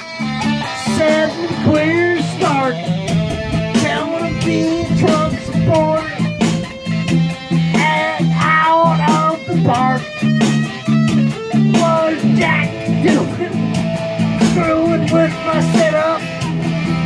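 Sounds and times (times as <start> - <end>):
electric guitar riff: 0.0 - 17.0.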